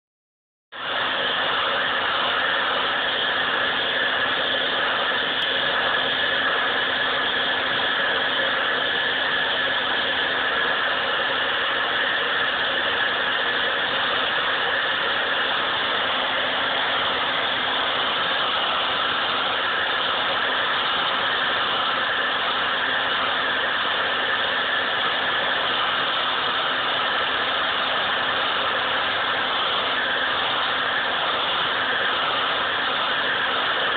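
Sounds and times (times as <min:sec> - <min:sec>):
hair dryer running: 0:00.8 - 0:33.9.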